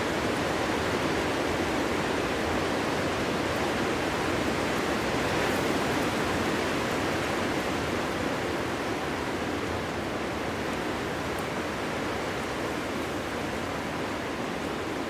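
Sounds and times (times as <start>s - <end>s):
strong wind through trees: 0.0s - 15.0s.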